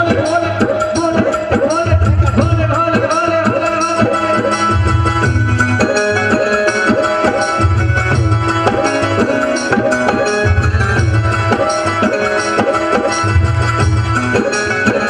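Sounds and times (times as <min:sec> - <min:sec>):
hand drum beat: 0:00.0 - 0:15.0
held melody notes: 0:00.0 - 0:15.0.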